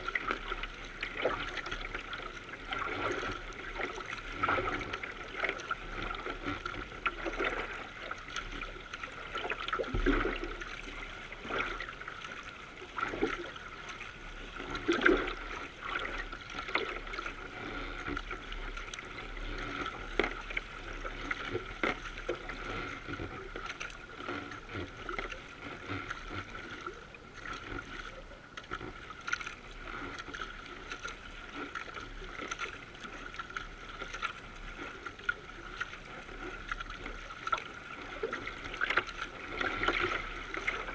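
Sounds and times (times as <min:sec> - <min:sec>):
water splashing against kayak: 0:00.0 - 0:40.9.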